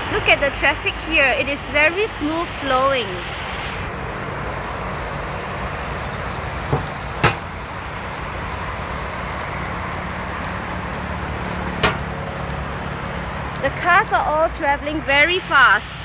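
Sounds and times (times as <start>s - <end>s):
cars passing at speed: 0.0s - 16.0s.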